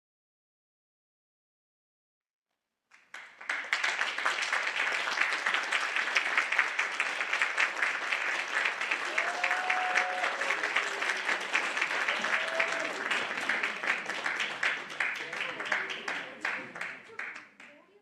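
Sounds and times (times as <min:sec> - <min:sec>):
audience applauding: 0:03.0 - 0:17.8.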